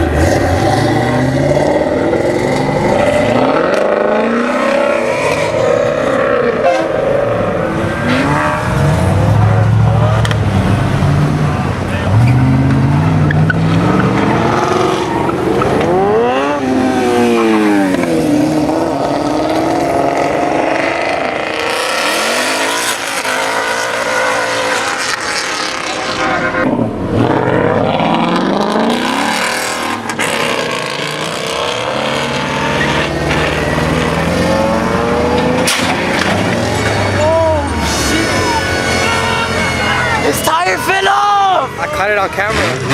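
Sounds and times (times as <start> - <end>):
car engines revving: 0.0 - 42.9
road noise rush: 0.0 - 42.9.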